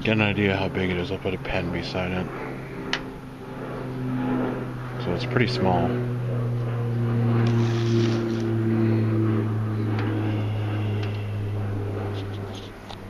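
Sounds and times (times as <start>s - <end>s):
low mechanical hum: 0.0s - 13.0s
steady tones: 0.0s - 13.0s.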